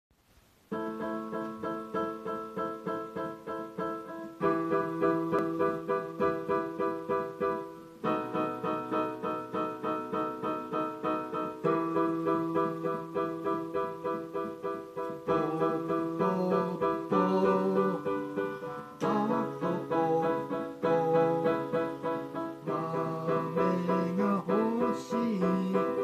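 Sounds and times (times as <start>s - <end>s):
electronic keyboard chords: 0.7s - 26.0s.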